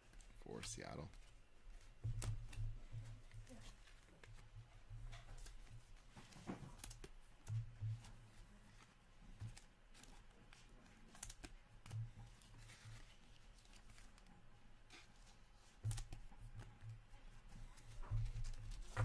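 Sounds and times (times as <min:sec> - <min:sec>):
trading cards clicking and rustling: 0:00.1 - 0:14.3, 0:14.9 - 0:16.7.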